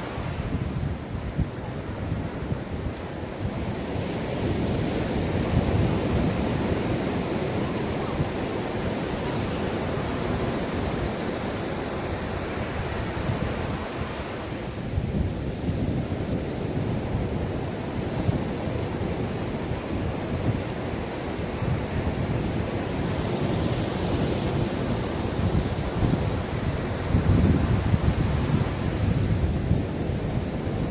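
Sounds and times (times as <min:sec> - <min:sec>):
sea waves washing onto shore: 0:00.0 - 0:30.9
wind on microphone: 0:00.0 - 0:30.9.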